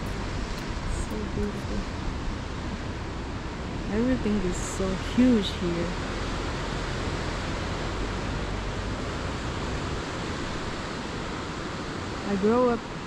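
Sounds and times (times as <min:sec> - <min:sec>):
ocean surf: 0:00.0 - 0:13.0
wind rumble on microphone: 0:00.0 - 0:13.0.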